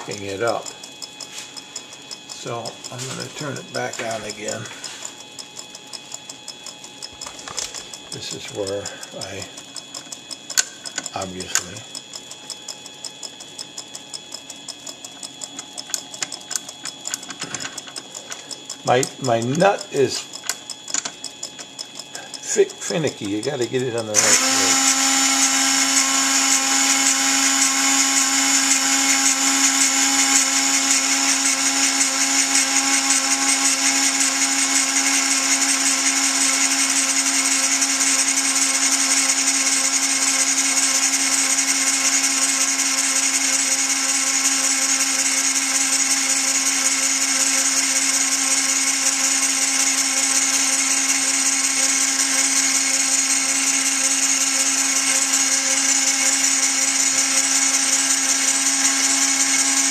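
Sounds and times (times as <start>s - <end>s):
rotary tool grinding whine: 0.0s - 59.9s.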